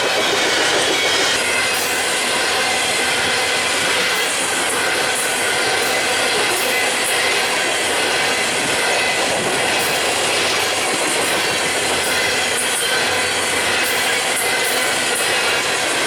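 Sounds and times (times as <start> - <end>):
freight train rolling past: 0.0 - 16.0
steel wheels on rails: 0.0 - 16.0.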